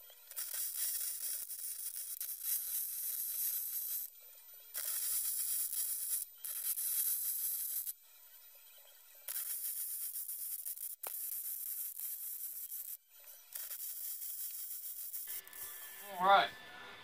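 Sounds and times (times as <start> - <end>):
arc welding hiss: 0.3 - 4.1, 4.8 - 8.0, 9.2 - 16.5.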